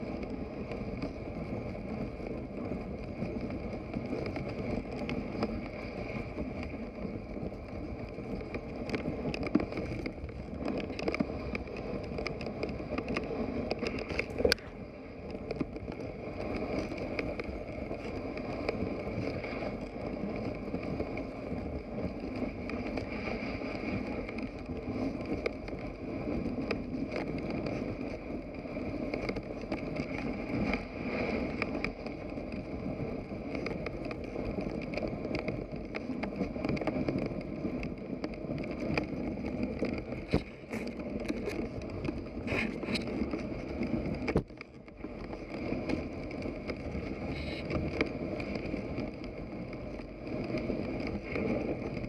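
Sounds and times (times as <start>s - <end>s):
sled rushing through snow: 0.0s - 52.0s.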